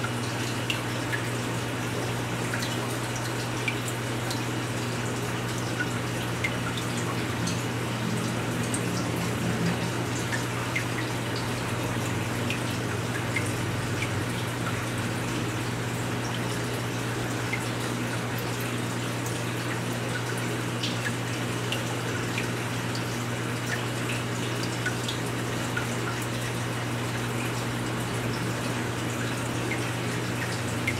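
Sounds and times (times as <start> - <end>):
water trickling and dripping: 0.0 - 30.9.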